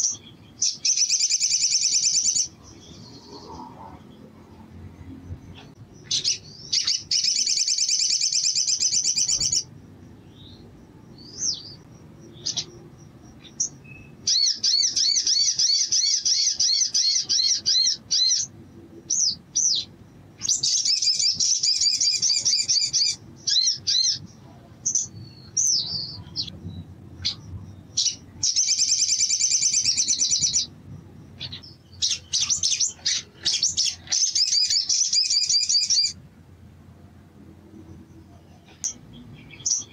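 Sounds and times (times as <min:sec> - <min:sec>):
bird trilling song: 0:00.0 - 0:36.2, 0:38.0 - 0:39.9.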